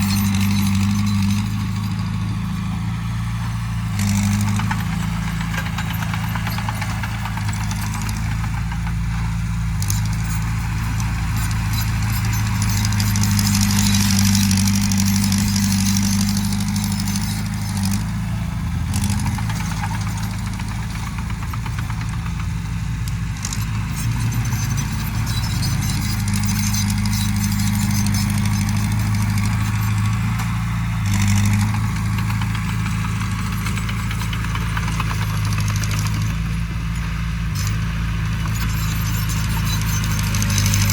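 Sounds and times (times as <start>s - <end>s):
heavy machinery diesel engine: 0.0s - 40.9s
clatter and hiss: 4.0s - 40.9s.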